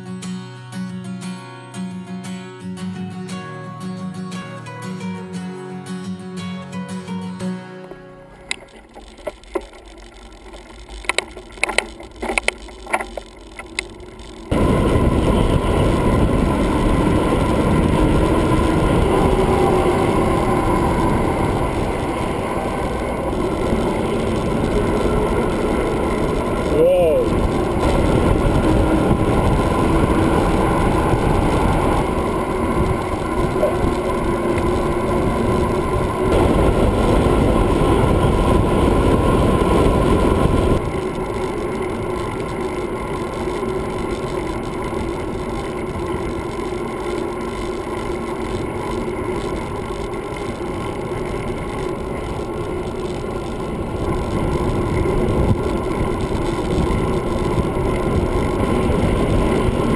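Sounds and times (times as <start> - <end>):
bicycle tyre noise: 7.9 - 59.9
wind roar over camera: 9.2 - 59.9.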